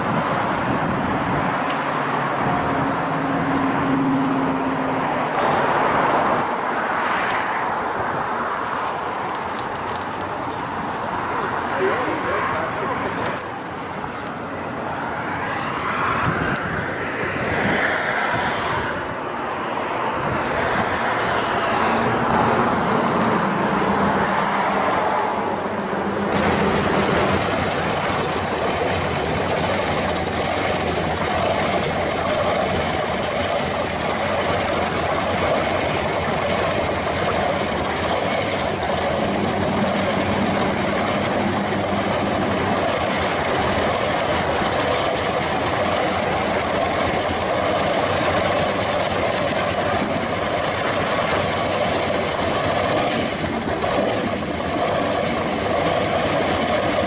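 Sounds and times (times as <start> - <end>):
truck engine running at low speed: 0.0 - 57.0.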